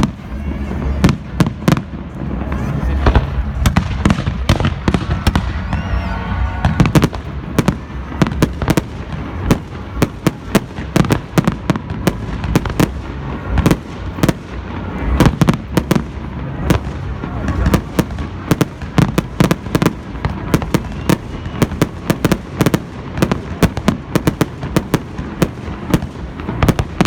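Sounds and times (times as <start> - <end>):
distant fireworks rumble: 0.0 - 27.0
firecrackers banging: 0.0 - 27.0.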